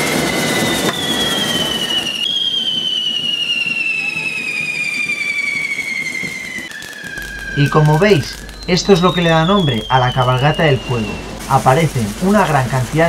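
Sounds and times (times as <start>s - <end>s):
fireworks rushing hiss: 0.0s - 13.0s
high descending whistle: 0.0s - 13.0s.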